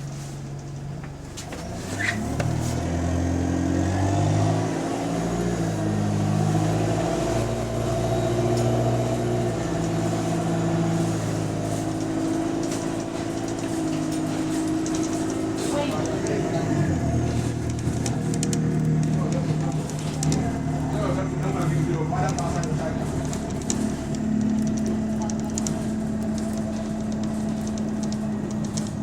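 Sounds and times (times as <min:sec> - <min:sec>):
bus diesel engine accelerating: 0:00.0 - 0:29.0
exhaust leak noise: 0:03.9 - 0:29.0.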